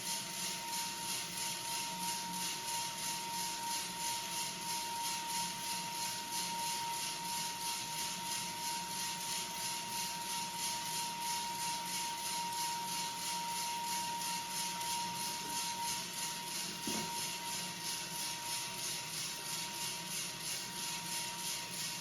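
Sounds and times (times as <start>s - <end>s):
coffee beans rattling in roaster drum: 0.0s - 22.0s.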